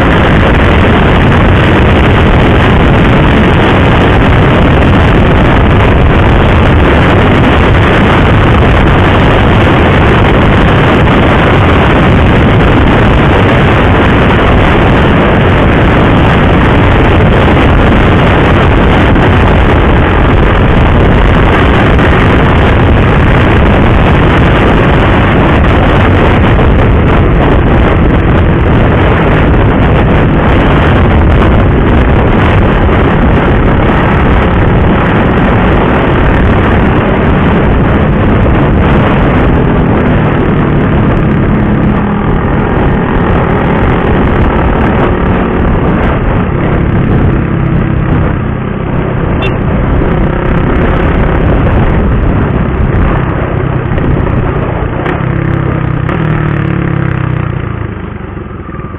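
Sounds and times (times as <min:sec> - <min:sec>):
motorcycle engine running: 0:00.0 - 0:58.9
wind rushing on microphone: 0:00.0 - 0:58.9.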